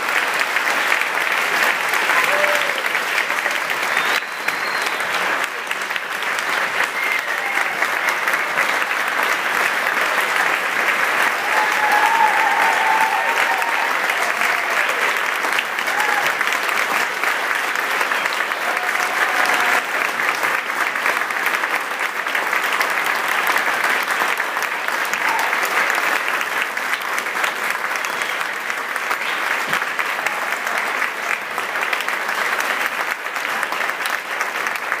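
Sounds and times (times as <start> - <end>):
large audience applauding: 0.0 - 35.0.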